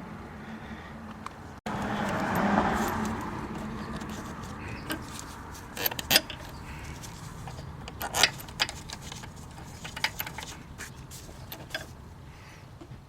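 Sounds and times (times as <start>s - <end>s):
light clicks and knocks of parts: 1.1s - 12.2s.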